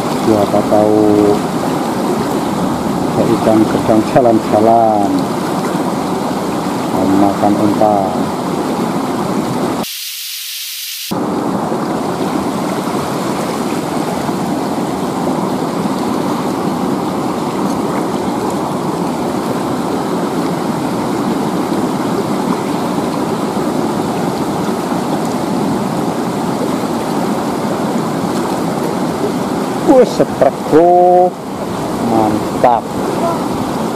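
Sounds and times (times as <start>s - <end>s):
river water rushing over rocks: 0.0s - 9.8s, 11.2s - 33.9s.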